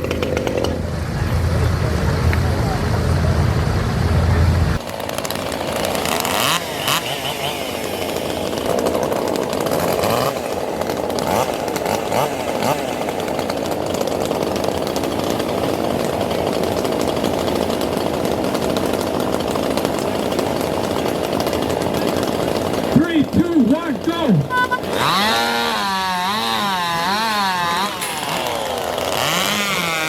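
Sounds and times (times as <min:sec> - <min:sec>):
chainsaw cutting log at high revs: 0:00.0 - 0:01.1, 0:04.8 - 0:30.0.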